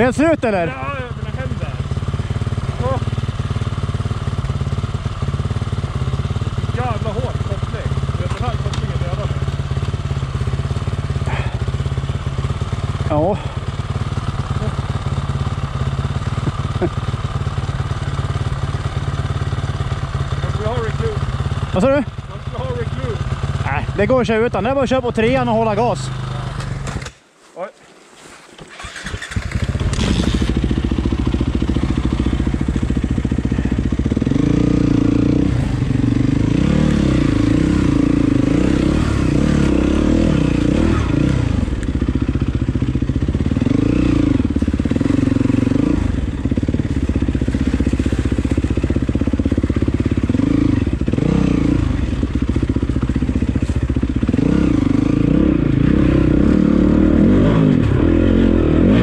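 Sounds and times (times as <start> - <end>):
motorcycle engine revving: 0.0 - 27.2, 28.6 - 59.0.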